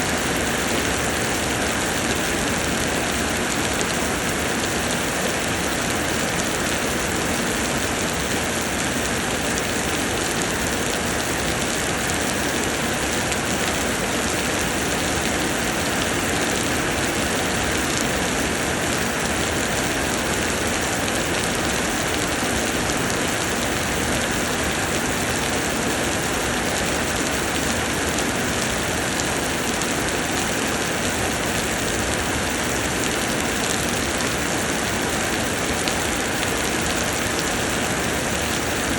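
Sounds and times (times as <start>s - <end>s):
rain pouring down: 0.0s - 38.9s.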